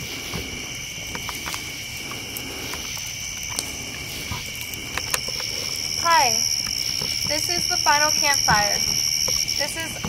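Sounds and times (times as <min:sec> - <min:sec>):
campfire crackling and popping: 0:00.0 - 0:10.0
crickets trilling: 0:00.0 - 0:10.0.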